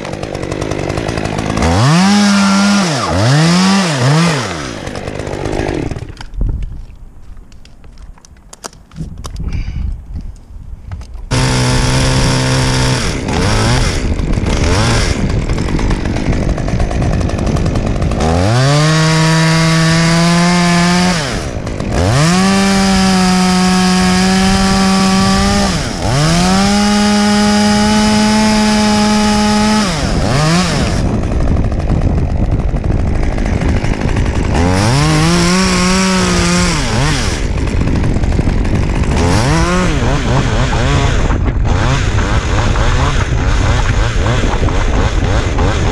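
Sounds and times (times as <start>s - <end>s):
chainsaw engine revving: 0.0s - 6.4s, 11.3s - 45.9s.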